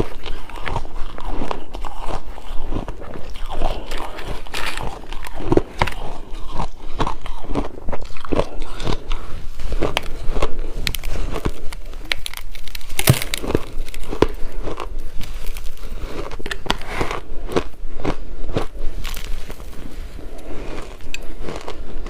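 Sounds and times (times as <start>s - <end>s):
shaved ice being chewed: 0.0s - 22.0s.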